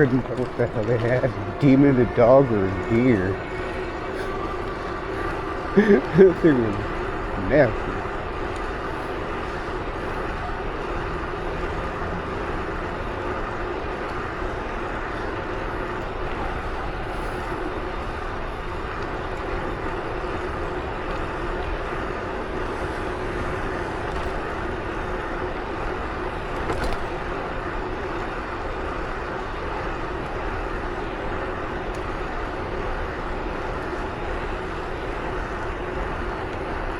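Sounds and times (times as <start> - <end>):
vehicle running and wind noise: 0.0 - 36.9.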